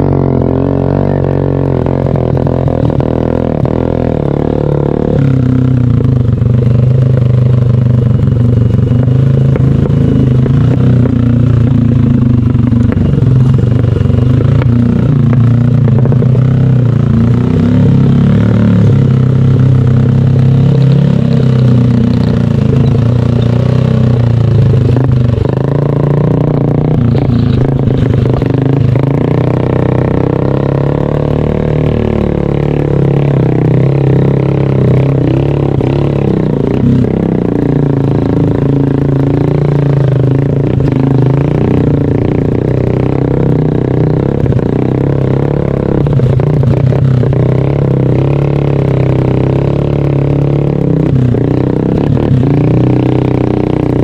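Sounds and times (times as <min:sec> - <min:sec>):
vehicle engine under load: 0:00.0 - 0:54.0.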